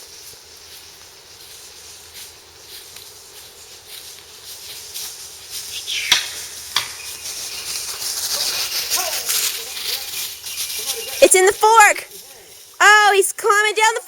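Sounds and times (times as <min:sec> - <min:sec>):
dry leaves rustling and crunching: 0:00.0 - 0:13.4.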